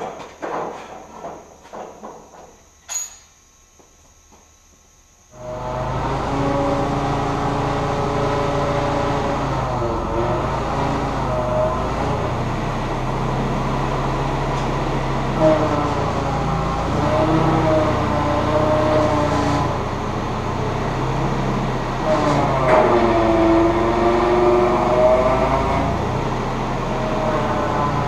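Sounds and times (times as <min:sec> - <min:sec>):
hydraulic whine: 0:00.0 - 0:28.0
forklift engine running: 0:05.3 - 0:28.0.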